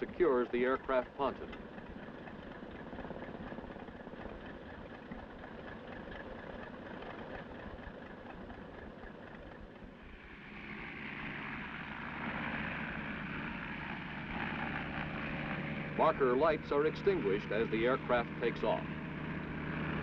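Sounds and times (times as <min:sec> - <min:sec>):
floatplane piston engine idling: 0:00.0 - 0:20.0.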